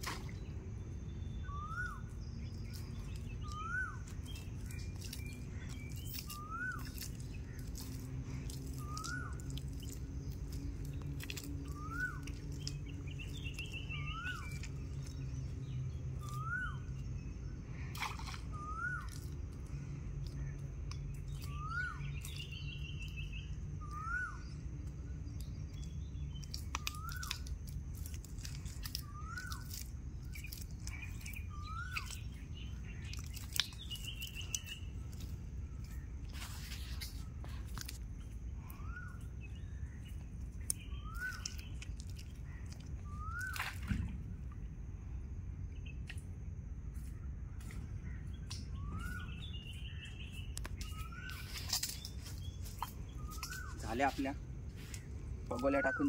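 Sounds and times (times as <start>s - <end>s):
steady low hum: 0.0s - 55.9s
bird trill: 0.3s - 17.3s, 18.0s - 19.4s, 20.3s - 24.6s, 25.4s - 37.2s, 38.2s - 44.1s, 47.6s - 56.0s.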